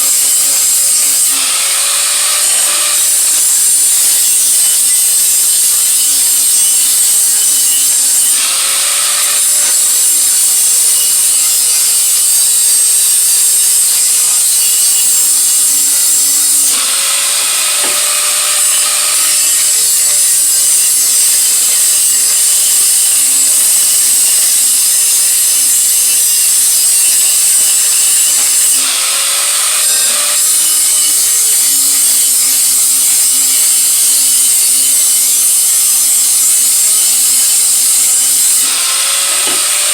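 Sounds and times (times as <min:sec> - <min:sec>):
electric grinder grinding steel: 0:00.0 - 0:39.9.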